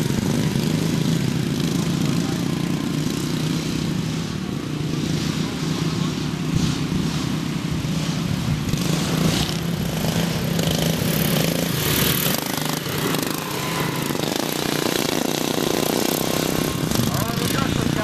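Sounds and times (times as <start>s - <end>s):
lawn tractor engines racing: 0.0s - 18.0s.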